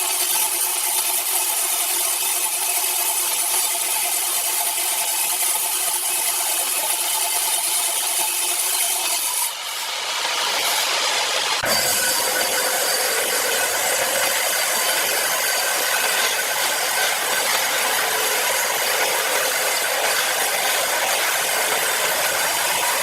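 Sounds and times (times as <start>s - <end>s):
power saw cutting wood: 0.0s - 23.0s.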